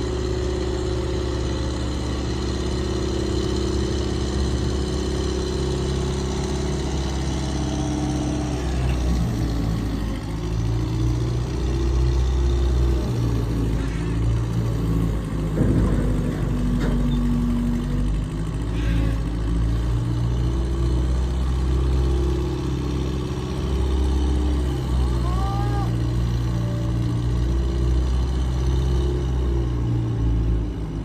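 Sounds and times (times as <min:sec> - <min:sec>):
large engine running: 0:00.0 - 0:31.0.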